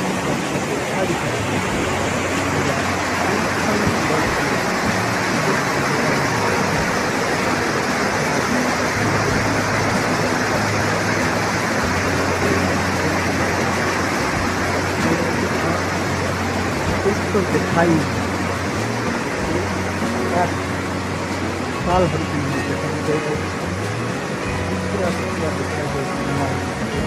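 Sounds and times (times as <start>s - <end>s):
low vehicle engine hum: 0.0s - 27.0s
river and waterfall rushing: 0.0s - 27.0s.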